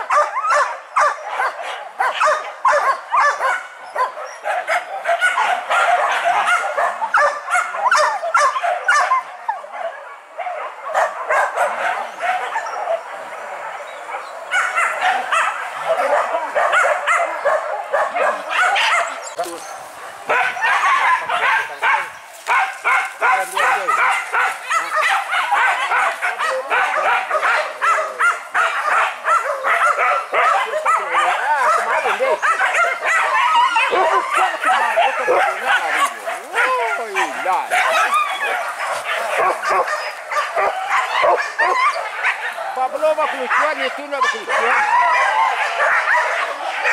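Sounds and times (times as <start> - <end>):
dogs barking and yelping: 0.0 - 46.9.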